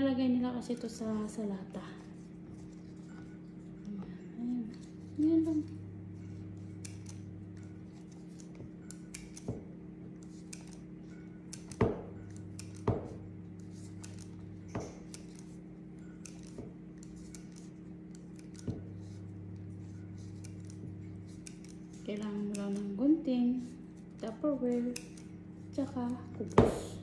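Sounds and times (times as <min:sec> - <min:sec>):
steady low hum: 0:00.0 - 0:27.0
scissors snipping dry bread: 0:04.6 - 0:27.0.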